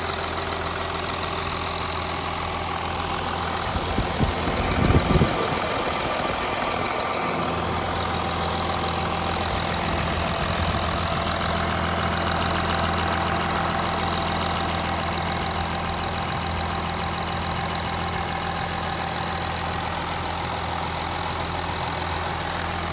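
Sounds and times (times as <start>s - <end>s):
engine humming: 0.0s - 22.9s.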